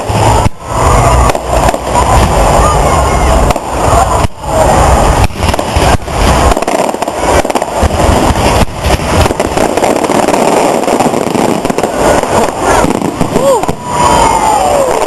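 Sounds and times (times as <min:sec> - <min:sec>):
fireworks crackling and banging: 0:00.0 - 0:15.0
heavy low rumble: 0:00.0 - 0:15.0.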